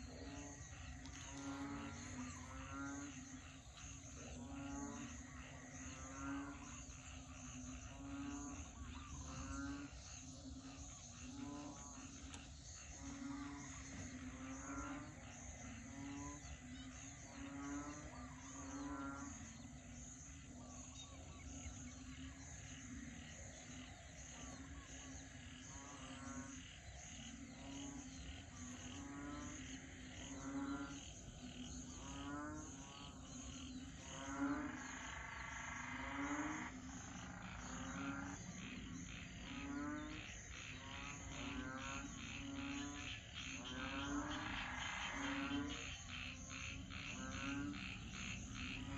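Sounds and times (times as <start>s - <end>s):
frogs croaking: 0.0s - 48.9s
higher pulsed frog calls: 0.0s - 48.9s
insects trilling: 0.0s - 48.9s.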